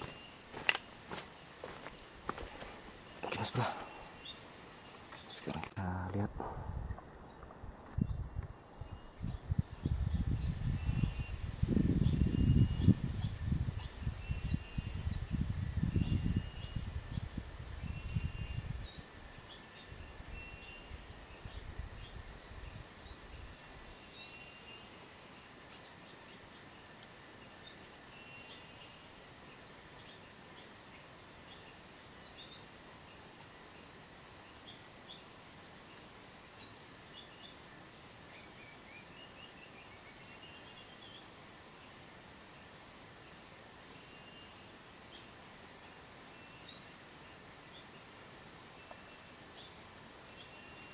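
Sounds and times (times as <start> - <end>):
sunbird chirps and trills: 0.0 - 6.5, 7.1 - 50.9.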